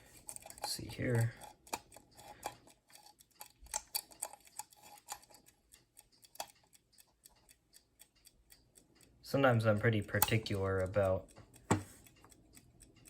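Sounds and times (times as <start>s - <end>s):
alarm clock clicks and ticks: 0.0s - 13.0s.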